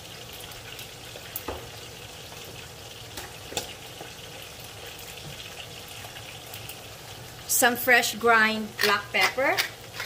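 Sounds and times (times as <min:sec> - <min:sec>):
food sizzling in a wok: 0:00.0 - 0:10.0.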